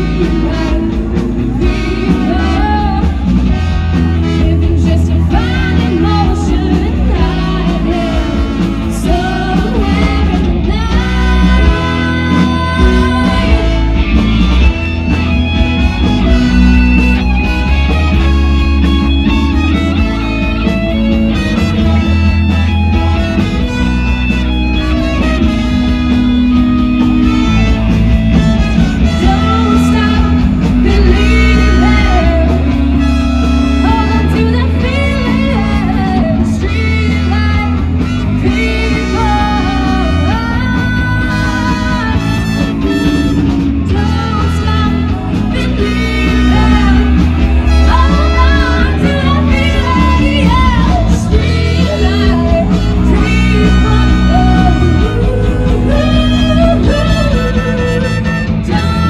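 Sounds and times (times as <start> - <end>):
electric guitar: 0.0 - 59.0
live rock band playing: 0.0 - 59.0.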